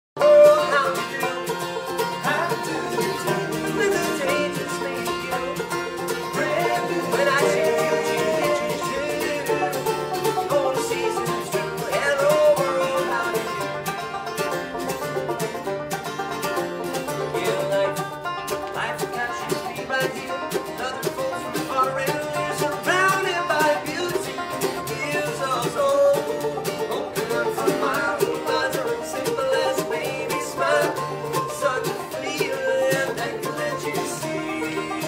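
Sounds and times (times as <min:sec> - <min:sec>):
acoustic guitar: 0:00.2 - 0:35.0
banjo: 0:00.2 - 0:35.0
fiddle: 0:00.2 - 0:35.0
mandolin: 0:00.2 - 0:35.0.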